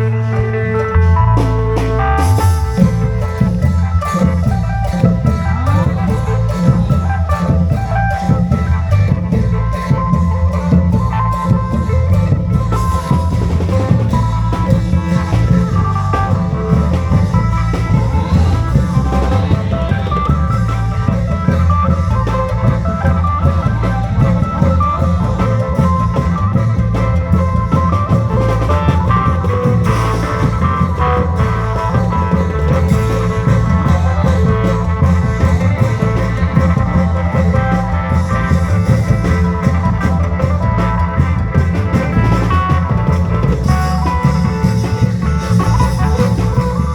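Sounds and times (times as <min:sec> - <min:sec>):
long-drum band music: 0:00.0 - 0:46.9.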